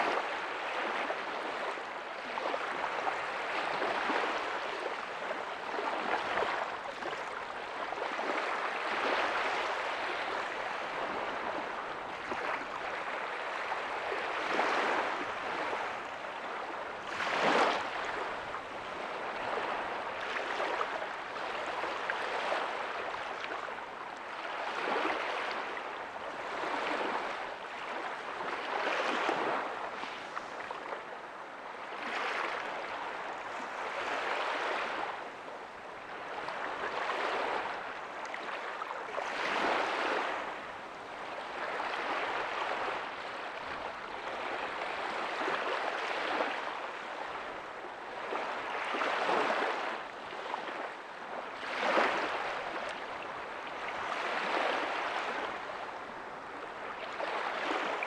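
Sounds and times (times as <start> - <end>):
small waves breaking on a beach: 0.0 - 58.0.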